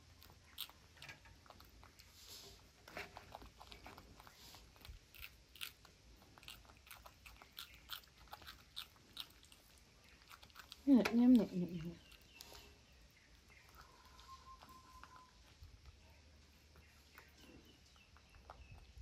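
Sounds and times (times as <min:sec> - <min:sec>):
monkeys chewing pea pods: 0:00.0 - 0:19.0.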